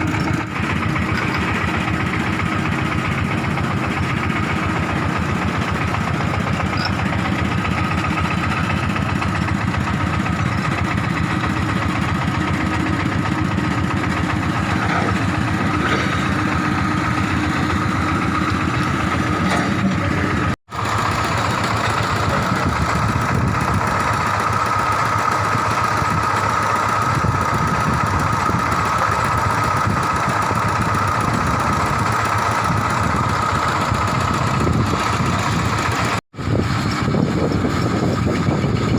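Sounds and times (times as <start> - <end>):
excavator diesel engine idling: 0.0 - 38.9.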